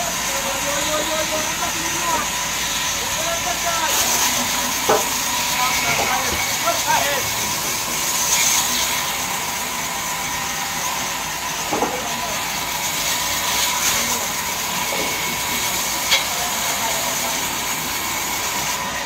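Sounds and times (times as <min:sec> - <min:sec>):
band saw running: 0:00.0 - 0:19.0.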